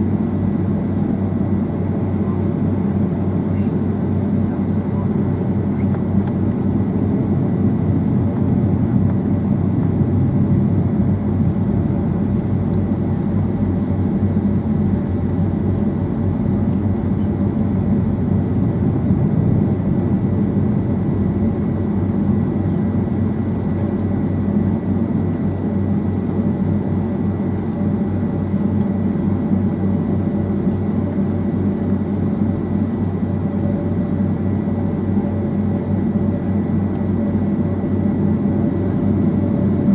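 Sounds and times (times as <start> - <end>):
jet engine and airflow noise: 0.0 - 39.9.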